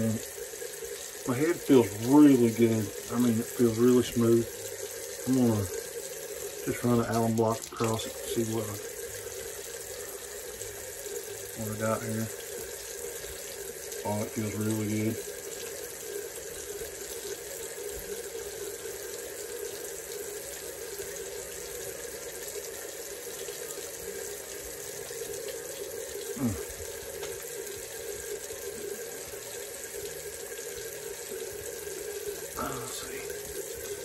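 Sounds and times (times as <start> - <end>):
water tap running into sink: 0.0 - 34.0.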